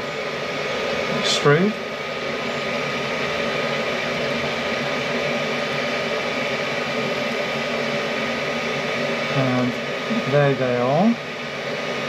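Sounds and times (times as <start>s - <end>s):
mechanical whir: 0.0s - 12.0s.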